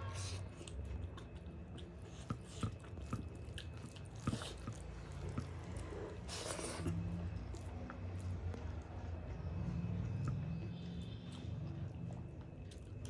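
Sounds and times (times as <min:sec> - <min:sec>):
chewing and wet mouth sounds: 0:00.0 - 0:13.0.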